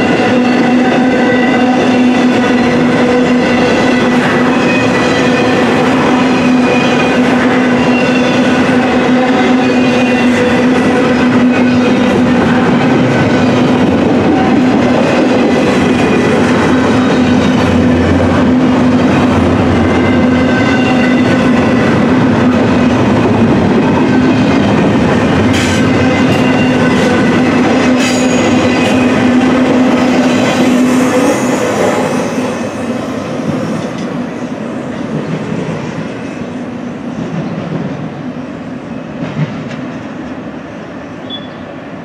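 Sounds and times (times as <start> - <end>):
steel wheels rumbling on rail: 0.0 - 42.0.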